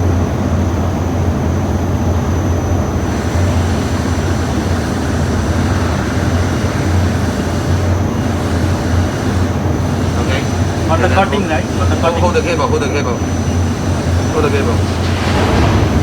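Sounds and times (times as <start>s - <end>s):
low mechanical drone: 0.0s - 16.0s
faint high whine: 2.0s - 16.0s.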